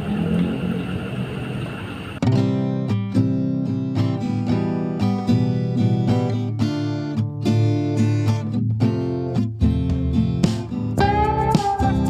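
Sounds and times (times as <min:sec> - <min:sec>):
acoustic guitar plucked and strummed: 0:02.2 - 0:12.0.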